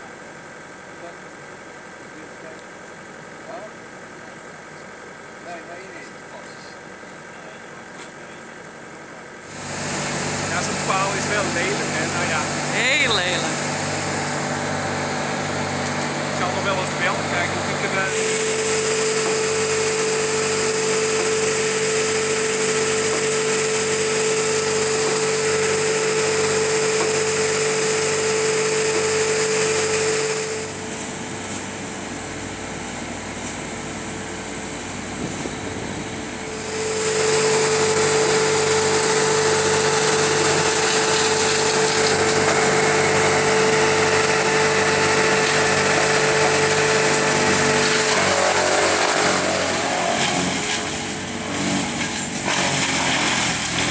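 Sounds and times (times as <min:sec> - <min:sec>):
wood chipper high whine: 0:00.0 - 0:53.9.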